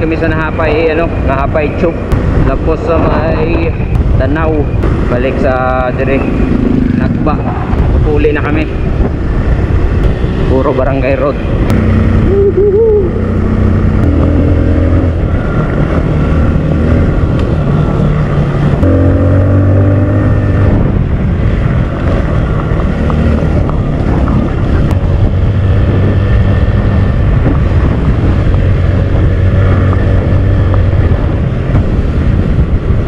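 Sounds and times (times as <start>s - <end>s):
wind noise on microphone: 0.0s - 33.0s
motorcycle engine revving: 0.6s - 33.0s.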